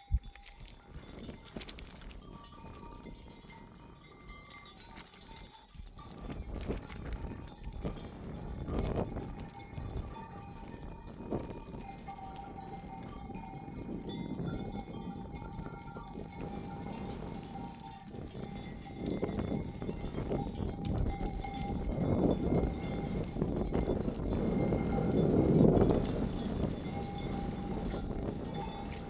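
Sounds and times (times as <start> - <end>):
hooves scuffling on ground: 0.0 - 29.0
sheep bells clanking: 0.0 - 29.0.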